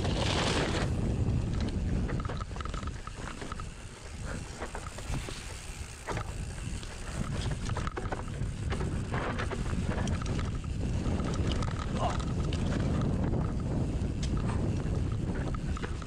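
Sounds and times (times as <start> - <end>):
bike rattling and knocking: 0.0 - 16.0
wind buffeting microphone: 0.0 - 16.0.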